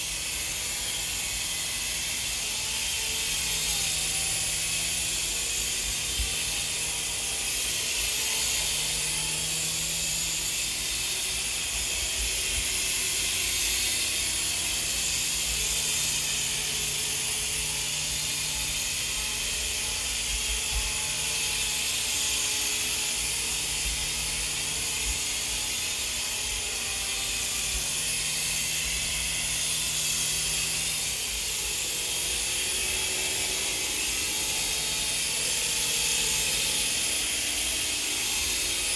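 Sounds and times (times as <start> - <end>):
toy helicopter motors whirring: 0.0 - 38.9.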